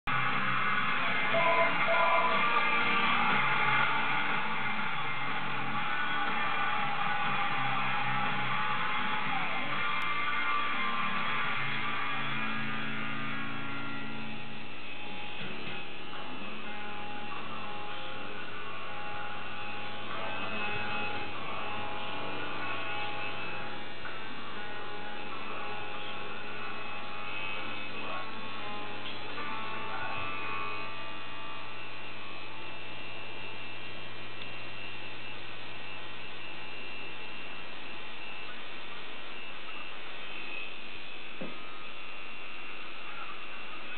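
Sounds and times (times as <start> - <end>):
music: 0.0 - 43.9
tattoo machine buzzing: 0.1 - 43.9.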